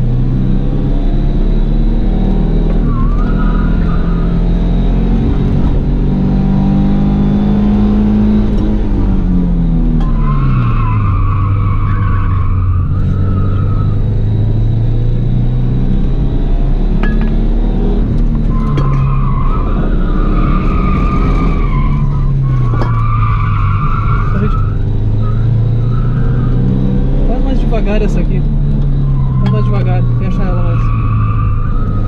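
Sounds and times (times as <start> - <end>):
car engine running hard: 0.0 - 32.0.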